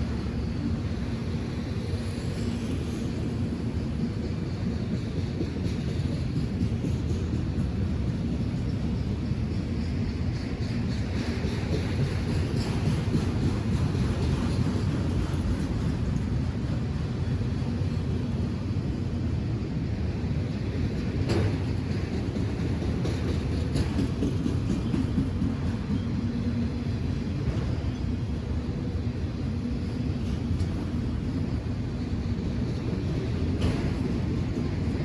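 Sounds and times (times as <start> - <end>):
wheels clanking on track: 0.0 - 19.1, 19.8 - 35.0
train rumbling past: 0.0 - 35.0.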